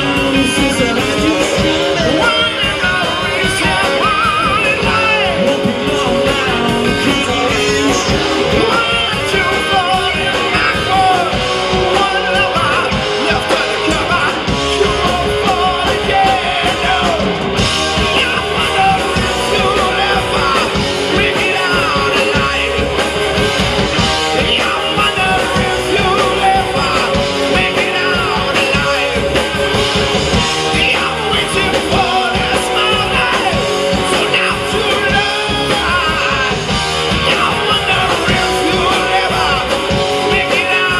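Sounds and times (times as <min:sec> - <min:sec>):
lead singer singing: 0:00.0 - 0:40.9
live rock band playing: 0:00.0 - 0:40.9.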